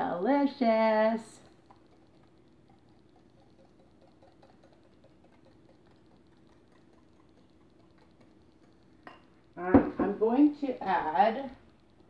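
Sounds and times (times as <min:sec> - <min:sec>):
whisk ticking against glass bowl: 0:00.8 - 0:12.0.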